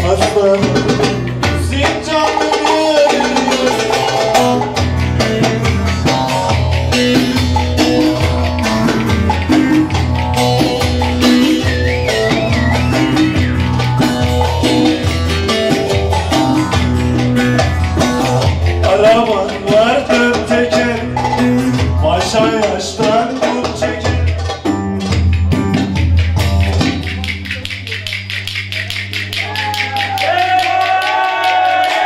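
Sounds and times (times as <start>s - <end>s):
plucked string instrument: 0.0s - 30.2s
folk dance music: 0.0s - 32.0s
percussive bass beat: 0.0s - 32.0s.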